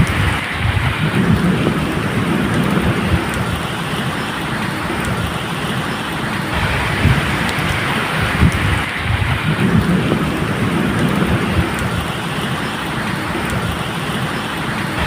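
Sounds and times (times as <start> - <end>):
low rumble of thunder: 0.0 - 15.0
rain falling: 0.0 - 15.0.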